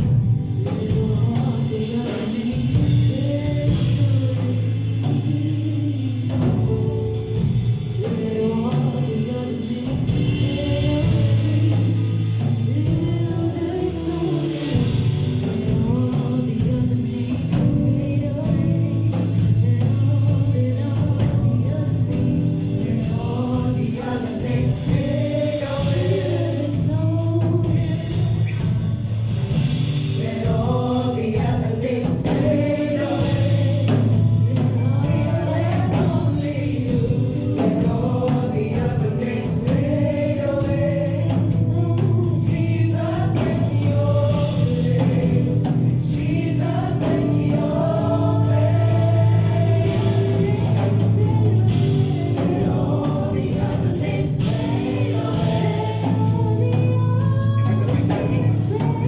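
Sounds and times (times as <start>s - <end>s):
choir singing gospel song: 0.0s - 59.0s.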